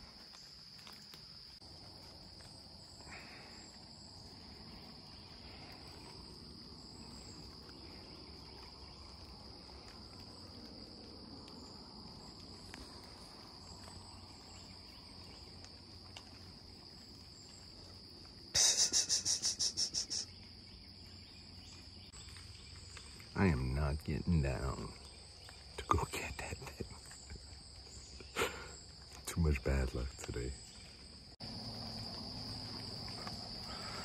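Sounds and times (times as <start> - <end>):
insects chorus: 0.0 - 34.0.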